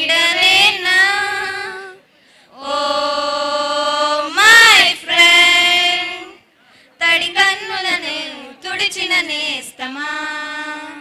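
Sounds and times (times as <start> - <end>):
women singing unaccompanied: 0.0 - 11.0.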